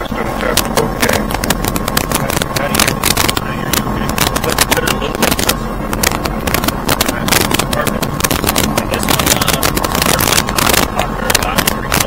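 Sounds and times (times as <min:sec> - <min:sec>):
airplane engine in cockpit: 0:00.0 - 0:12.0
irregular crackling: 0:00.4 - 0:12.0.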